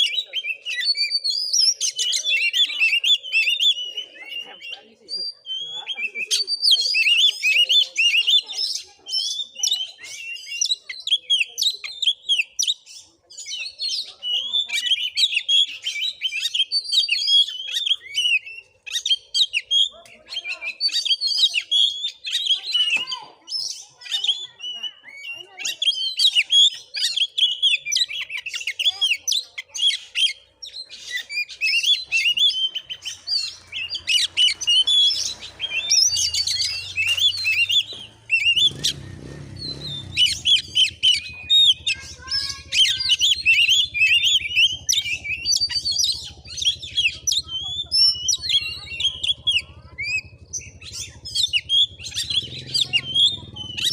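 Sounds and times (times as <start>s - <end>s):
bird singing chattering song: 0.0s - 53.9s.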